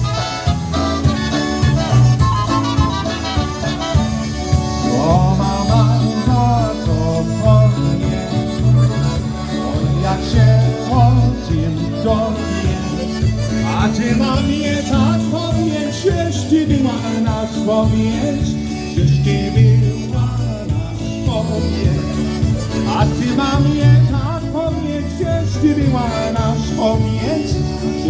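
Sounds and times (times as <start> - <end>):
polka band playing: 0.0 - 28.0.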